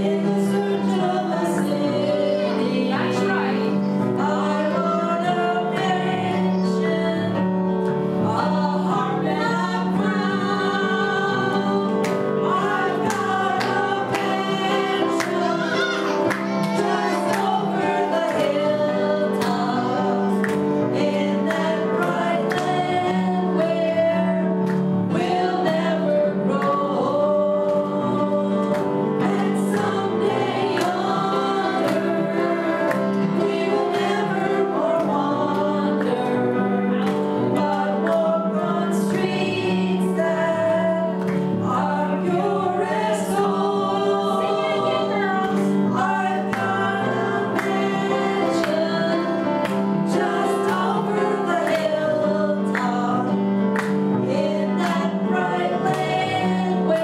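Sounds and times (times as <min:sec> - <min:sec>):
keyboard chords: 0:00.0 - 0:57.0
women singing gospel: 0:00.0 - 0:57.0.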